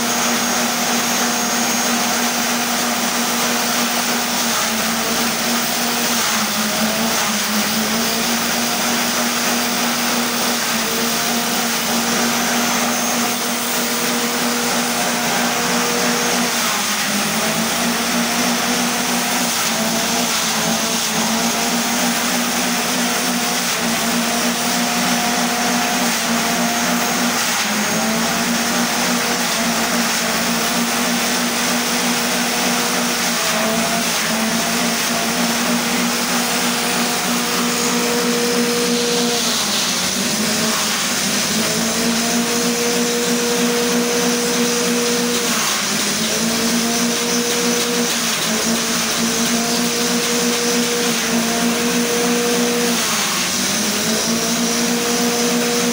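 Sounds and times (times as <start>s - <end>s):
small gasoline engine: 0.0s - 55.9s.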